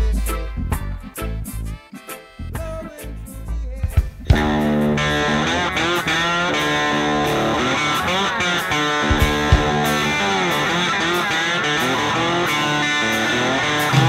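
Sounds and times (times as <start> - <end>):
electric guitar with bending notes: 0.0 - 14.0
steady band backing: 0.0 - 14.0.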